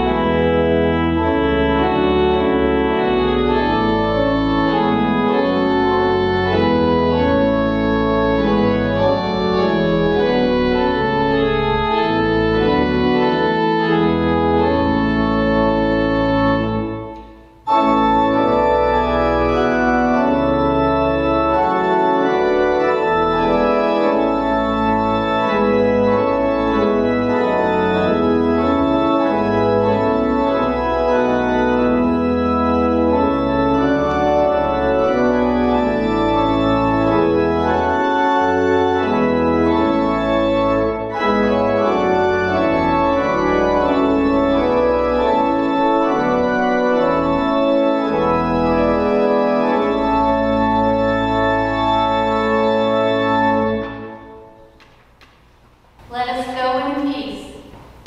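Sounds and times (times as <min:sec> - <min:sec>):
organ playing a hymn: 0:00.0 - 0:55.2.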